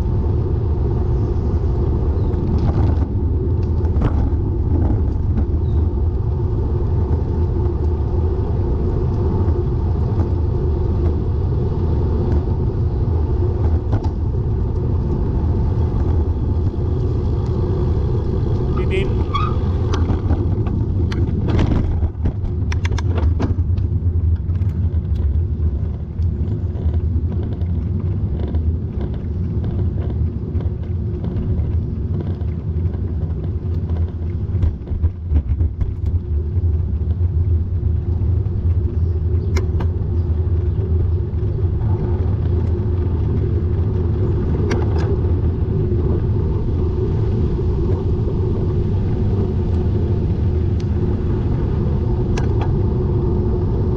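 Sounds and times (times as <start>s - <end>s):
wind and road rumble: 0.0s - 53.9s.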